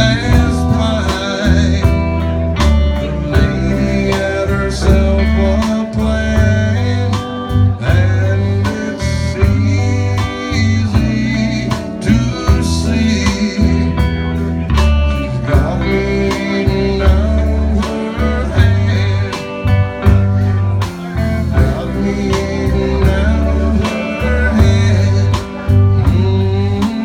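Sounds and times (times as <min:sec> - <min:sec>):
blues band playing live: 0:00.0 - 0:27.0.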